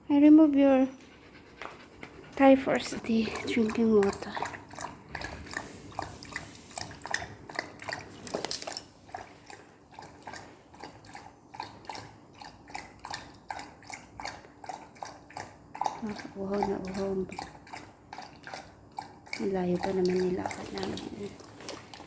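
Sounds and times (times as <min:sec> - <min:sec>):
dog lapping water: 0:00.7 - 0:22.0.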